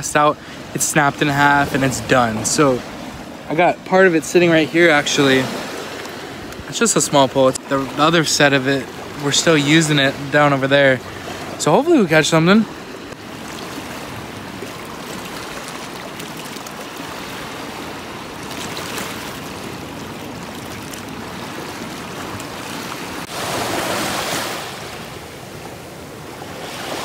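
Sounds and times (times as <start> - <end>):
small waves lapping on beach: 0.0 - 27.0.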